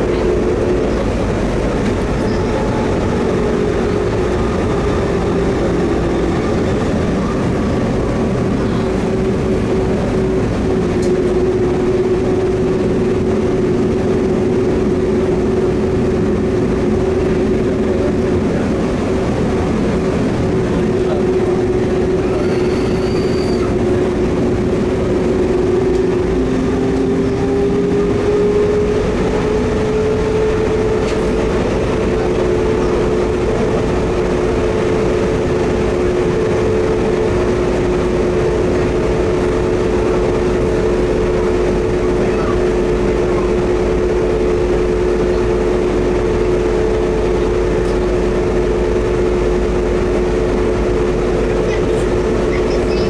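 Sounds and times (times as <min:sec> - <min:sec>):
train motor whine: 0:00.0 - 0:53.0
train running noise: 0:00.0 - 0:53.0.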